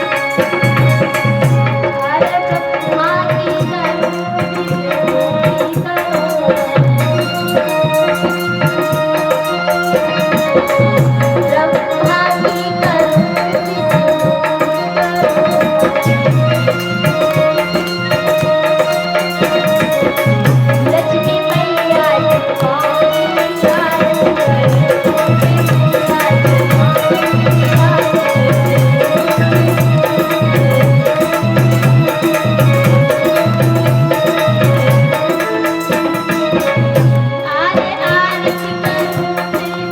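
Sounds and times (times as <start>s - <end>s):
devotional music melody: 0.0s - 39.9s
tabla rhythm: 0.0s - 39.9s.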